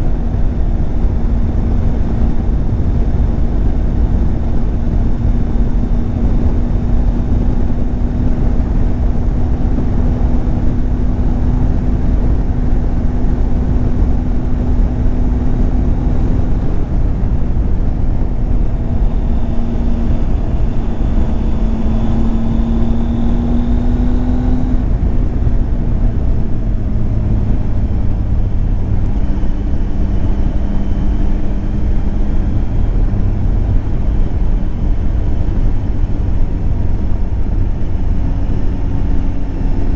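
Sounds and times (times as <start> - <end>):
motorcycle engine cruising: 0.0 - 39.9
riding wind rushing: 0.0 - 39.9.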